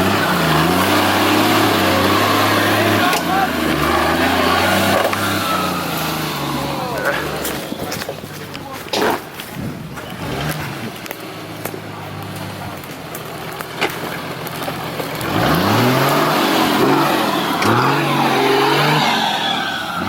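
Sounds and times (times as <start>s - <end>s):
off-road engine revving: 0.0s - 20.0s.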